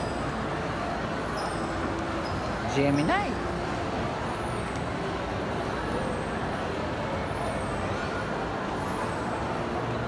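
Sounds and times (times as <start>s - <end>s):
crowd hubbub indoors: 0.0s - 10.0s.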